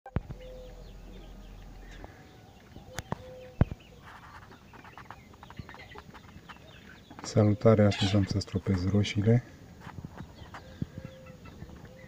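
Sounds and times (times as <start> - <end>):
short bird calls: 0.1 - 8.5, 10.2 - 12.0
chickens clucking: 0.1 - 12.0.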